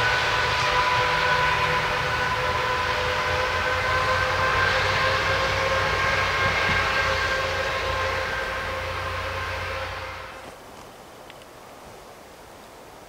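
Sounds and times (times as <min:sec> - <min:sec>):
diesel railcar pulling away: 0:00.0 - 0:10.6.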